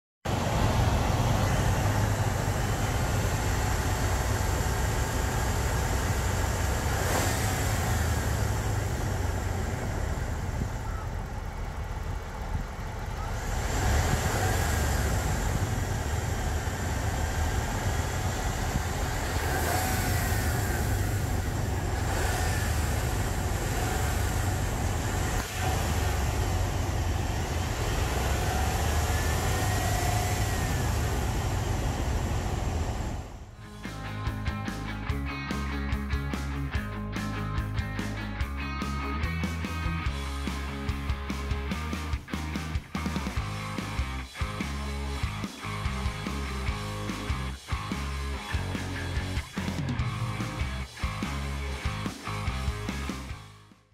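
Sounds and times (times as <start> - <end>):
car engine idling: 0.2 - 53.7.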